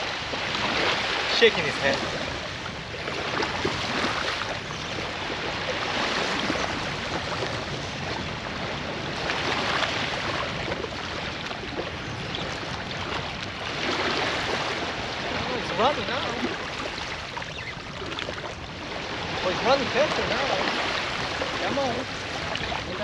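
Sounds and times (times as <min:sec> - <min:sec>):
moving water: 0:00.0 - 0:23.0.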